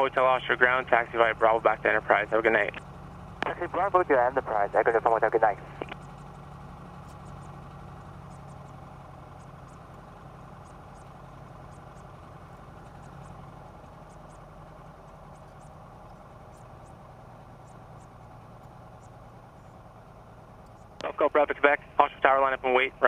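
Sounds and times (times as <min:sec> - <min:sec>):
small plane engine droning: 0:00.0 - 0:23.0.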